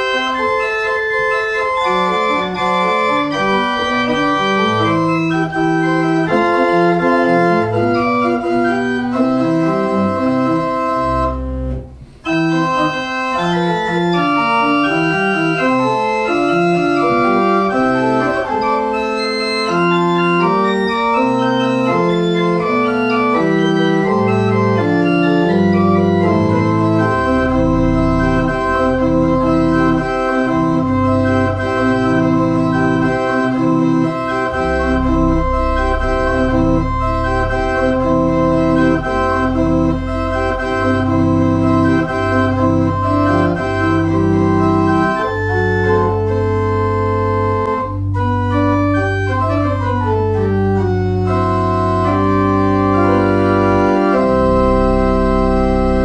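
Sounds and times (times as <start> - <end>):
deep bass organ notes: 0.0 - 56.0
pipe organ playing: 0.0 - 56.0.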